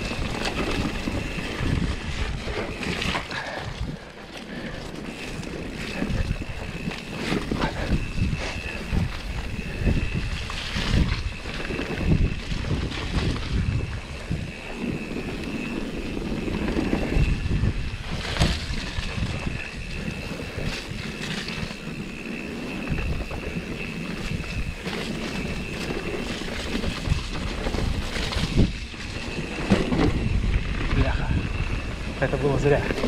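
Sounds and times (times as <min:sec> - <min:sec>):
steady high whine: 0:00.0 - 0:33.0
wind buffeting microphone: 0:00.0 - 0:33.0.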